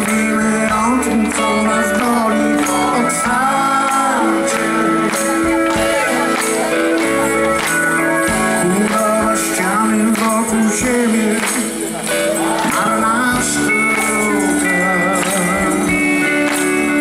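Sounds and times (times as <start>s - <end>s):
man singing: 0.0s - 6.9s, 8.2s - 17.0s
drums: 0.0s - 17.0s
electric bass: 0.0s - 17.0s
keyboard: 0.0s - 17.0s.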